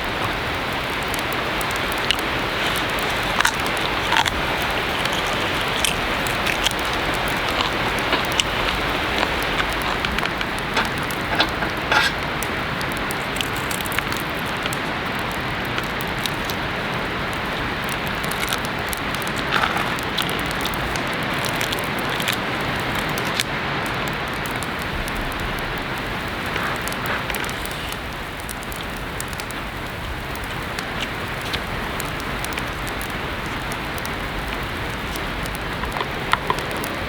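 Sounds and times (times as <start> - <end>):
heavy rain falling: 0.0 - 37.0
sharp raindrop hits: 0.0 - 37.0.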